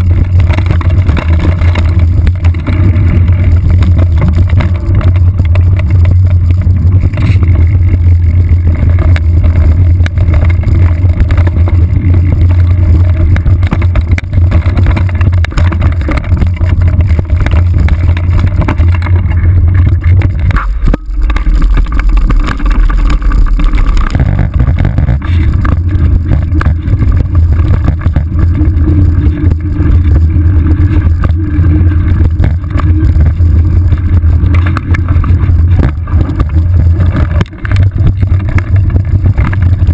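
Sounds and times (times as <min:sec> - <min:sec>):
low rumble of bike riding noise: 0:00.0 - 0:39.9.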